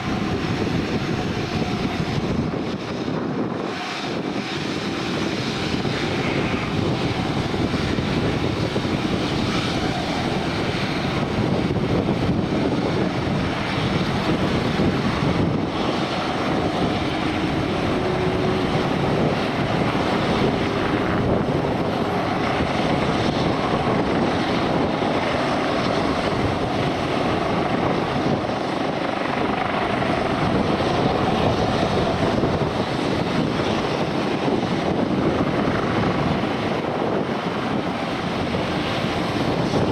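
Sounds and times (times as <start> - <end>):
aircraft engines running: 0.0 - 39.9.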